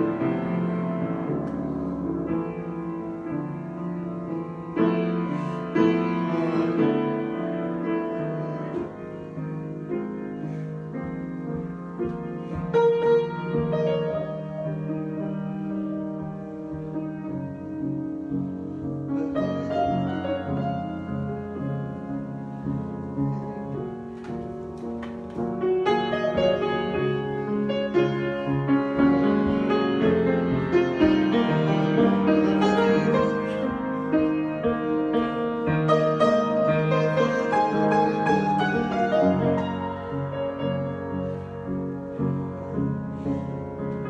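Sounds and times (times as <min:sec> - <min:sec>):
solo piano improvisation: 0:00.0 - 0:44.0.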